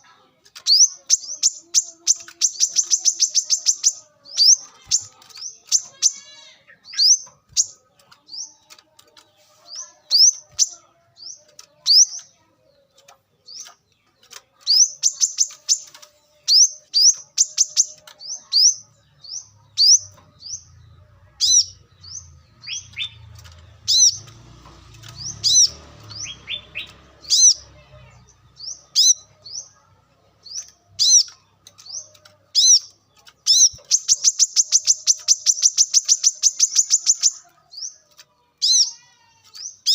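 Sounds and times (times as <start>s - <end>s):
bird high chirps and rattles: 0.4s - 39.9s.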